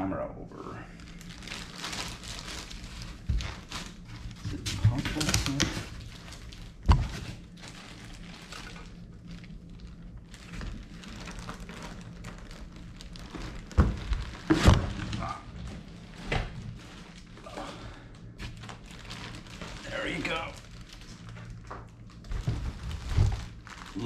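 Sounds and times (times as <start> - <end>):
low steady hum: 0.0 - 24.0
plastic wrapping crinkling: 0.9 - 24.0
foam packing scraping: 1.1 - 21.4, 22.2 - 24.0.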